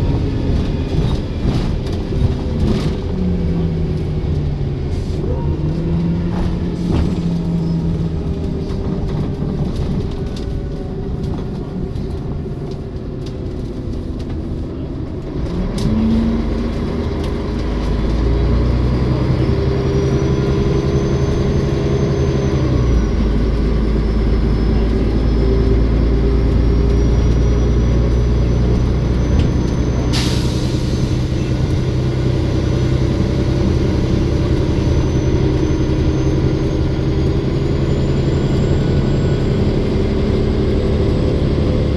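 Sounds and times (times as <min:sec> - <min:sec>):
bus engine running: 0:00.0 - 0:41.9.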